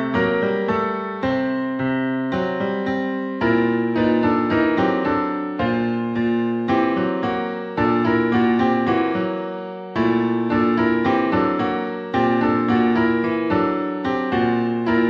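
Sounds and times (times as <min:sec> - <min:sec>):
piano-like keyboard music: 0:00.0 - 0:15.0.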